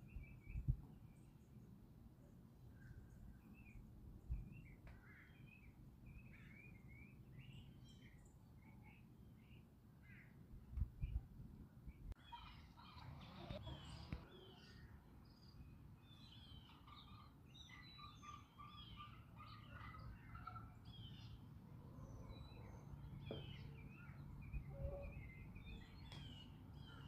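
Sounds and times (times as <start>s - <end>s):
small birds chirping: 0.0s - 1.8s, 2.7s - 27.0s.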